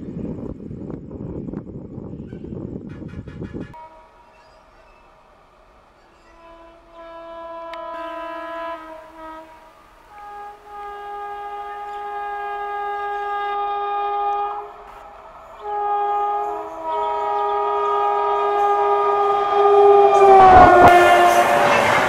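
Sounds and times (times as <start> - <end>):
train approaching at speed: 0.0 - 22.0
locomotive air horn blasts: 2.8 - 5.0, 6.2 - 22.0.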